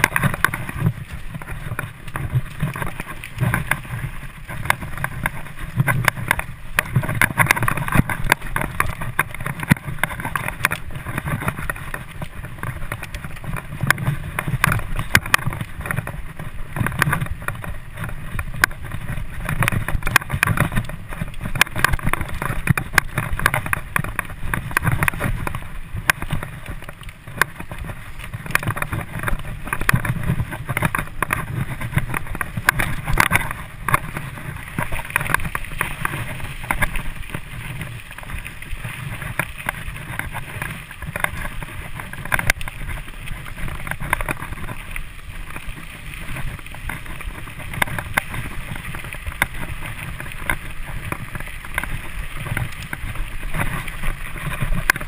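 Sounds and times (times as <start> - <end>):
bike rattling over bumps: 0.0 - 55.0
bike tyres on dirt: 0.0 - 55.0
wind on microphone: 0.0 - 55.0.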